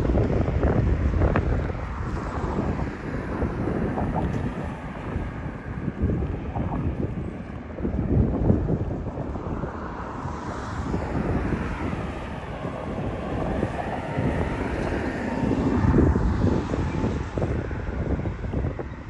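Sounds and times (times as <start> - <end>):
aircraft droning overhead: 0.0 - 19.0
wind gusting on microphone: 0.0 - 19.0.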